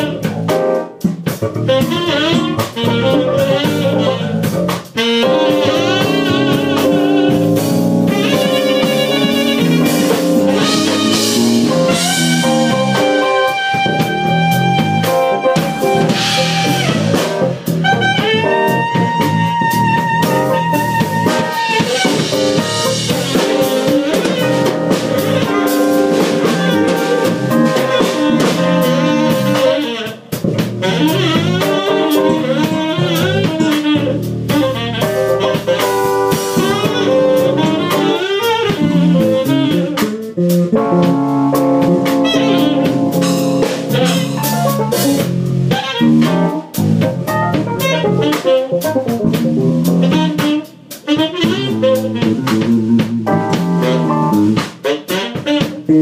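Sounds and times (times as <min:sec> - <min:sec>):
keyboard: 0:00.0 - 0:54.6
drum kit: 0:00.0 - 0:56.0
saxophone with vibrato: 0:01.7 - 0:40.2, 0:41.6 - 0:56.0.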